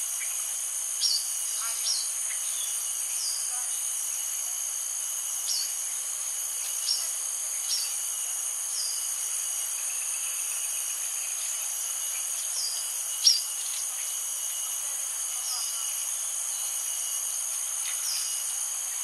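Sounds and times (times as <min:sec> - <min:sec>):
insects ringing: 0:00.0 - 0:19.0.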